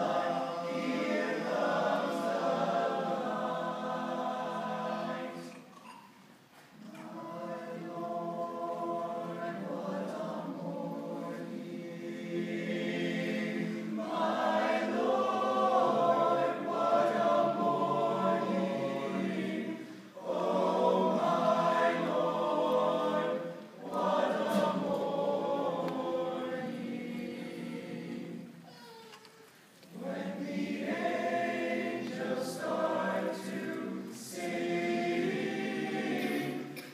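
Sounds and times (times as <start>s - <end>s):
male choir singing: 0.0s - 5.6s, 6.9s - 28.6s, 29.9s - 36.9s.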